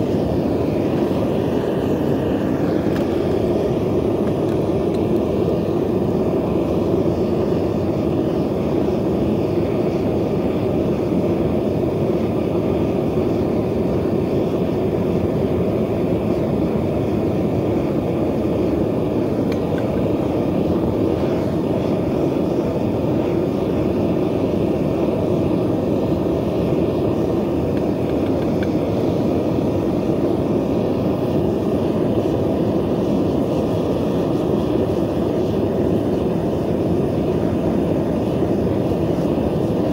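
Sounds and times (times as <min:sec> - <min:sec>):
gas burner roaring: 0:00.0 - 0:39.9.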